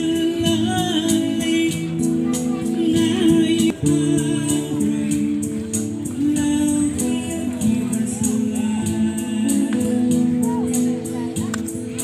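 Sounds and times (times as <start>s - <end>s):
guitar: 0.0s - 12.0s
person singing: 0.0s - 12.0s.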